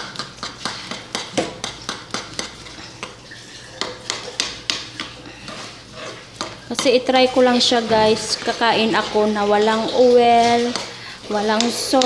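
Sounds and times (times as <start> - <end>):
metal spoon scraping frying pan: 0.4 - 12.0.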